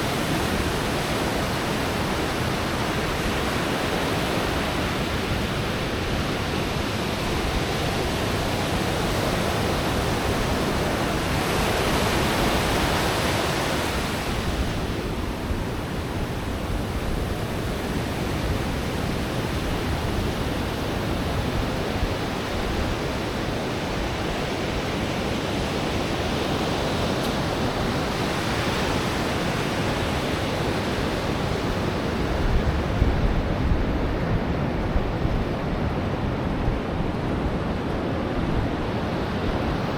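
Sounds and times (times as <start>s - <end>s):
ocean surf on beach: 0.0s - 39.9s
wind buffeting microphone: 0.0s - 39.9s.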